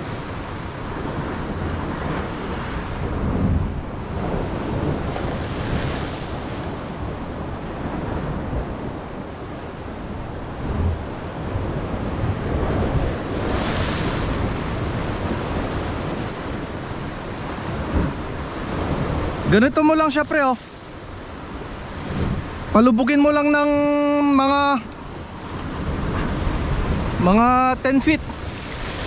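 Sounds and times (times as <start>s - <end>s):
wind buffeting microphone: 0.0s - 19.9s, 20.8s - 22.8s, 23.7s - 29.0s
waves breaking against rocks: 0.0s - 29.0s.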